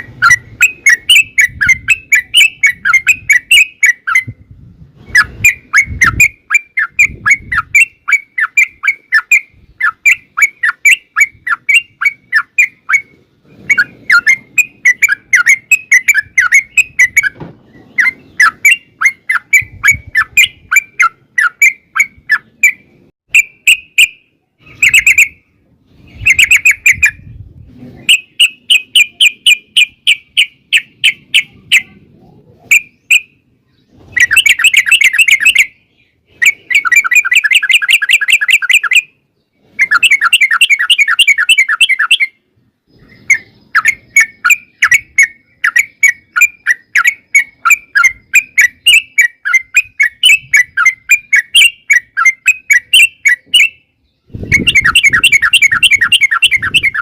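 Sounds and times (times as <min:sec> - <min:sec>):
bird singing chattering trills: 0:00.0 - 0:04.4, 0:05.0 - 0:27.4, 0:28.0 - 0:57.0.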